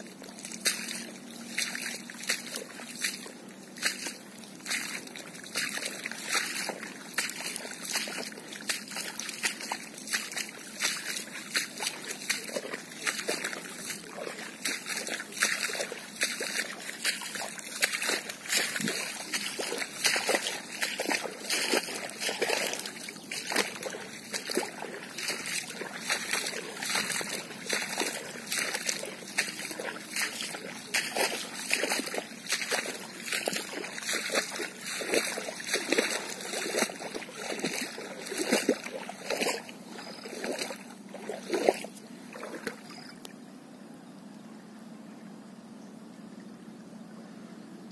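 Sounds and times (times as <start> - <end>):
footsteps splashing through water: 0.0 - 43.4.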